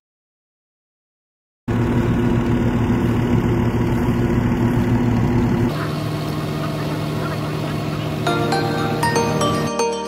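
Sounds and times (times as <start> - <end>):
tractor engines idling: 1.7 - 9.9.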